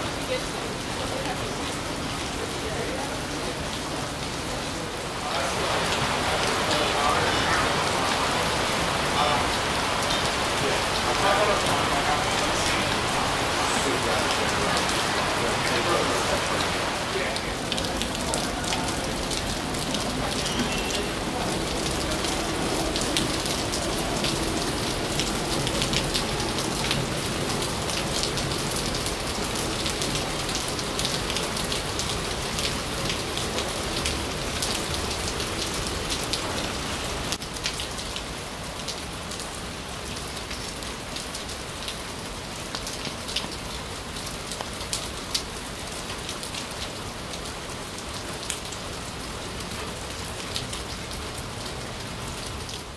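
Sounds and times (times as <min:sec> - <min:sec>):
heavy rain on wooden boardwalk: 0:00.0 - 0:52.9.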